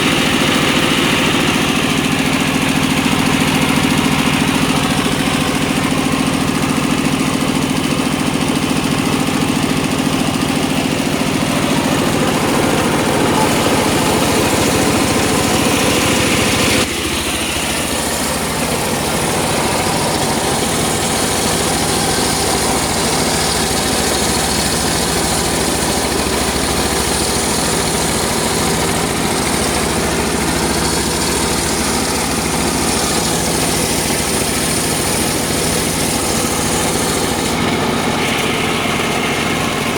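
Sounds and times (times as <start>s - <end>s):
circular saw engine drone: 0.0s - 39.9s.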